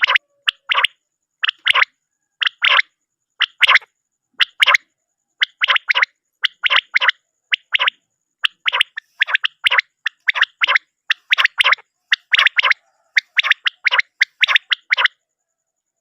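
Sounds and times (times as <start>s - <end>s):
quail calling: 0.0s - 15.2s.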